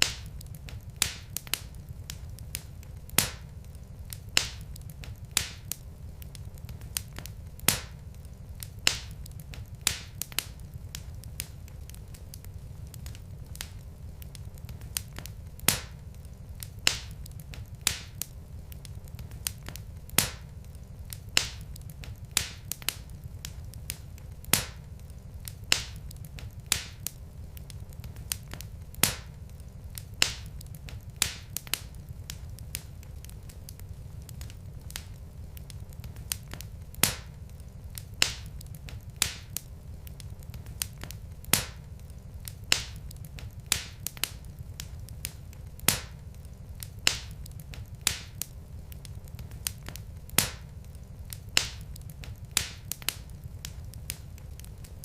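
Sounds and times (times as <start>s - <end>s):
fireplace logs crackling: 0.0s - 55.0s
low steady rumble: 0.0s - 55.0s.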